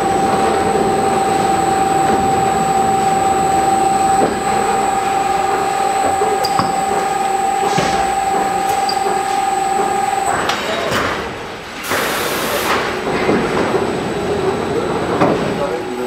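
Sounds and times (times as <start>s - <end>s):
wrapping machine whine: 0.0s - 16.0s.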